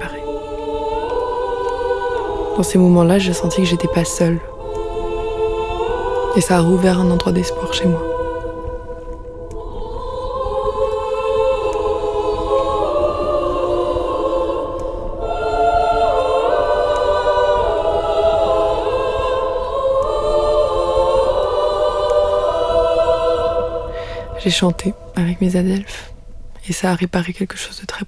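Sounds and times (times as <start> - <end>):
small choir singing chords: 0.0 - 27.0.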